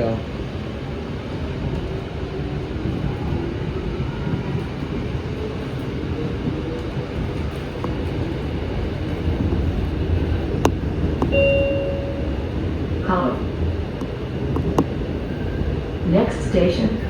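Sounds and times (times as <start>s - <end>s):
train rumbling with rising whine: 0.0s - 17.0s.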